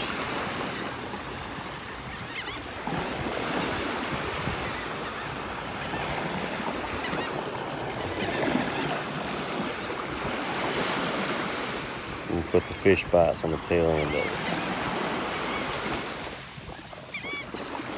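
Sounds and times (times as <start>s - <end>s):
waves breaking on sand beach: 0.0s - 17.9s.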